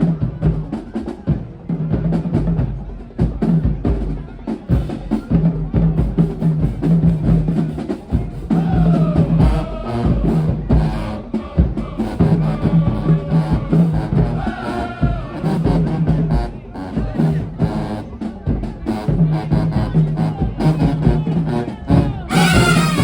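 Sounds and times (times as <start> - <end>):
drums beating fast rhythm: 0.0 - 23.0
marching band playing: 0.0 - 23.0.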